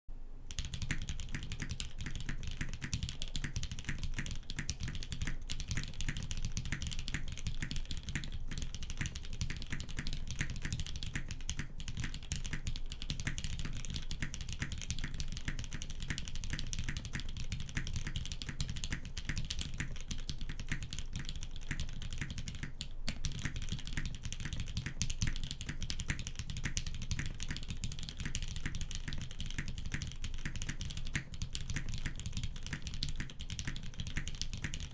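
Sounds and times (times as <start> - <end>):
fast typing on mechanical keyboard: 0.5 - 34.9.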